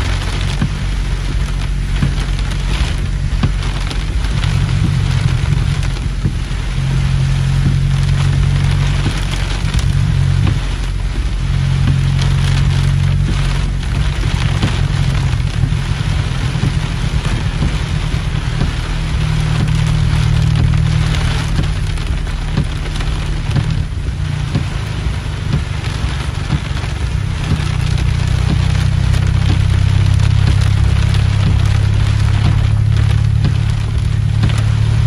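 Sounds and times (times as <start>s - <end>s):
heavy rain on car windshield: 0.0s - 35.0s
low rumble: 0.0s - 35.0s.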